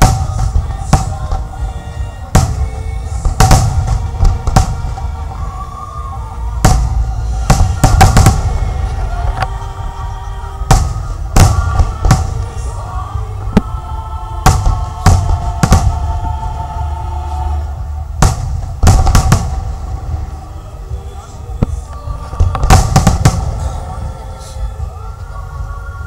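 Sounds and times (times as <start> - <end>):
fireworks exploding: 0.0 - 13.8, 14.4 - 16.6, 18.2 - 24.0
music playing: 0.0 - 26.0.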